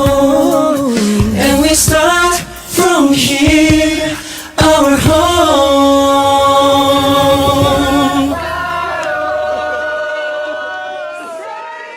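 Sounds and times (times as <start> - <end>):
male vocal group singing: 0.0 - 11.9.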